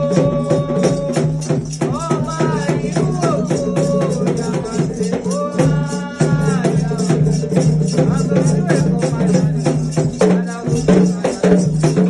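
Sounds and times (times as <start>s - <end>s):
drums: 0.0s - 12.0s
rattle shaken: 0.0s - 12.0s
voices singing a chant: 0.0s - 12.0s.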